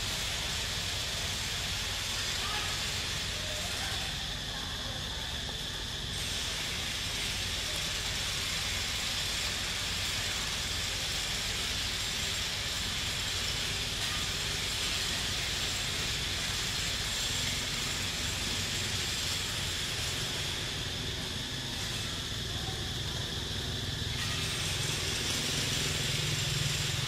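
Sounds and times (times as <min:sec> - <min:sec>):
high-pitched hiss: 0:00.0 - 0:27.0.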